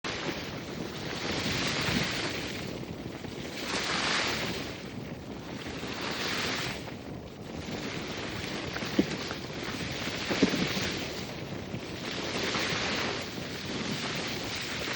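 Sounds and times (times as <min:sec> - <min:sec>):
wind rumbling on microphone: 0:00.0 - 0:14.9
small waves washing on shore: 0:00.1 - 0:14.9.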